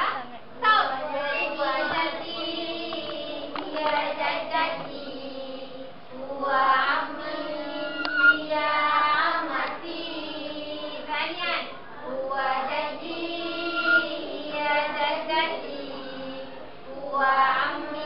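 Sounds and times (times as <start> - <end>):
children singing: 0.7 - 18.0.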